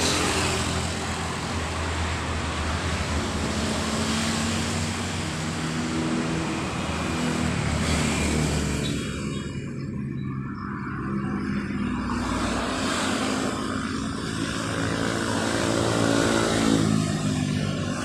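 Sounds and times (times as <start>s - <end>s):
cars passing on road: 0.0s - 18.0s.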